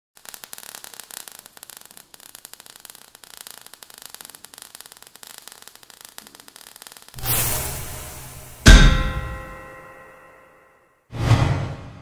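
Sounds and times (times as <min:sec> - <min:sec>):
crackling hiss of burning sparks: 0:00.2 - 0:09.8.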